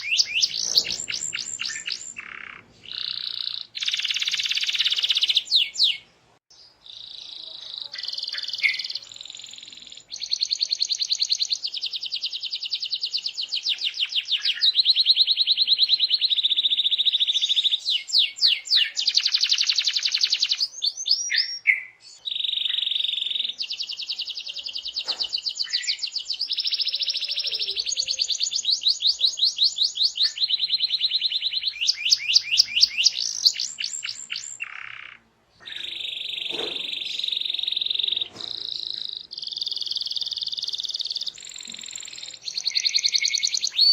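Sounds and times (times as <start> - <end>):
canary singing trills: 0.0 - 43.9.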